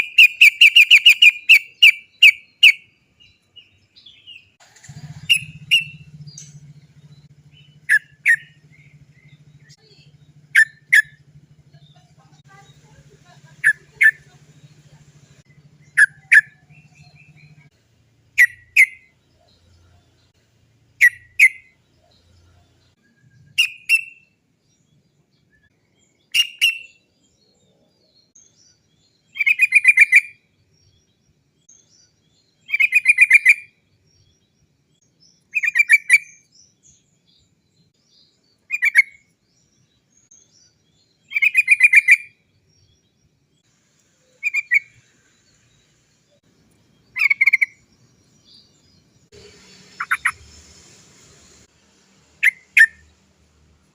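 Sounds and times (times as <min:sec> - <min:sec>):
bulbul singing: 0:00.0 - 0:53.9.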